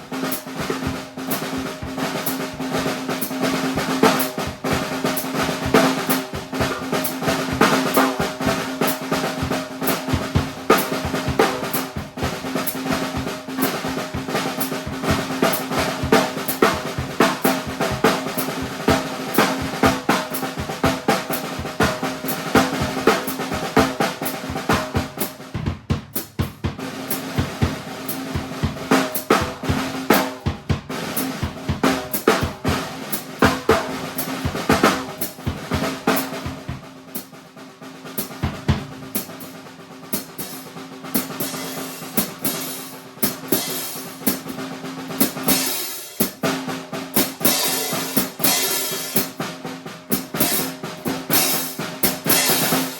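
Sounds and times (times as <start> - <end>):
drum kit fast groove: 0.0 - 52.9.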